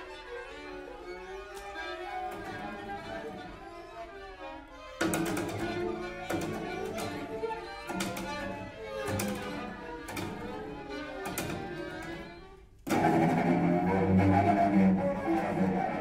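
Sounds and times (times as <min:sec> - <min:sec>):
string quartet bowed chords: 0:00.0 - 0:16.0.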